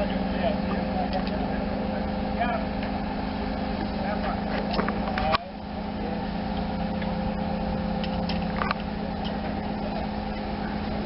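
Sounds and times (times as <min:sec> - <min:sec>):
diesel engine humming: 0:00.0 - 0:11.0.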